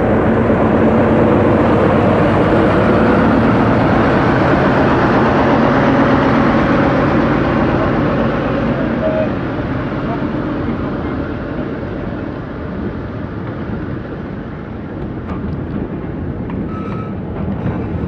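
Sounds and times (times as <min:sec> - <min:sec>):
locomotive running: 0:00.0 - 0:18.0.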